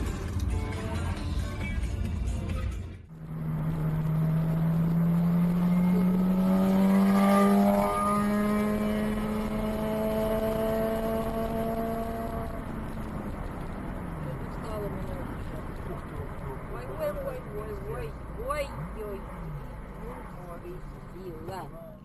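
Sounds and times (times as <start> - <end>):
vehicle engine accelerating: 0.0 - 21.6.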